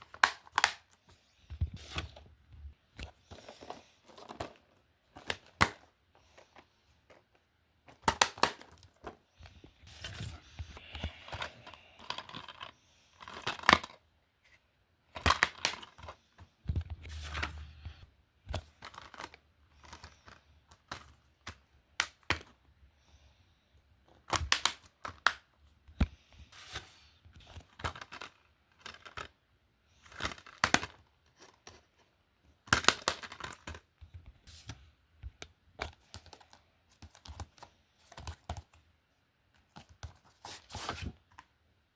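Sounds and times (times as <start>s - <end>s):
crinkling and rustling: 0.0s - 22.6s, 24.1s - 38.9s, 39.5s - 41.5s.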